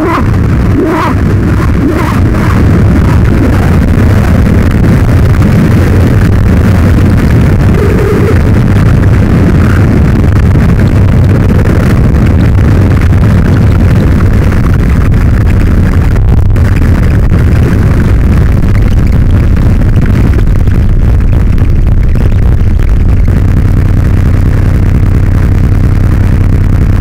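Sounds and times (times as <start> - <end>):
loud electronic noise music: 0.0 - 27.0.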